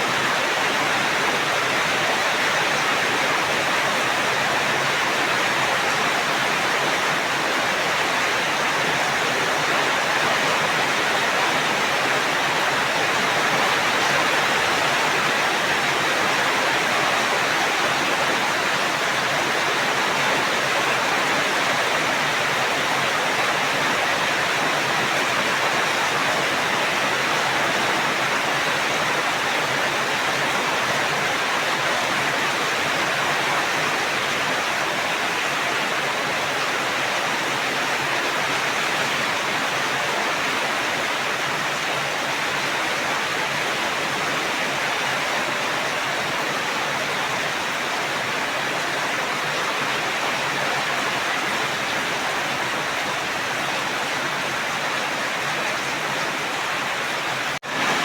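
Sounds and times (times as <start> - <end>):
steady dense rain: 0.0 - 58.0.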